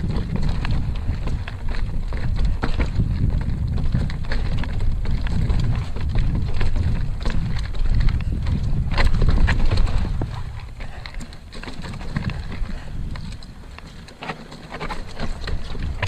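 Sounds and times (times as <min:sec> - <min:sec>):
bike clicks and rattles: 0:00.0 - 0:16.0
tyres crunching on dirt and rocks: 0:00.0 - 0:16.0
wind buffeting microphone: 0:00.0 - 0:16.0.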